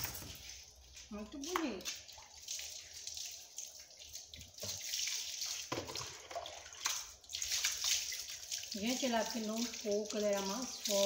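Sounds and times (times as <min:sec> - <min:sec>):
water splashing on concrete: 0:00.0 - 0:11.0.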